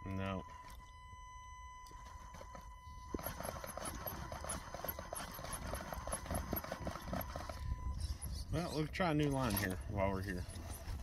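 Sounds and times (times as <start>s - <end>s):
toy motor straining: 1.8s - 11.0s.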